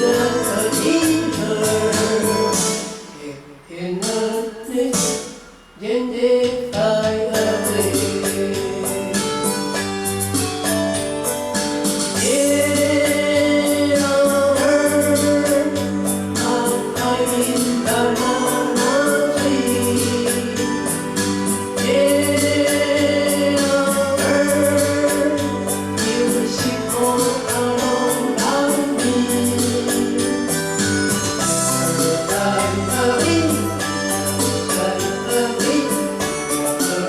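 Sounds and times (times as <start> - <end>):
song with sung vocals: 0.0 - 37.0.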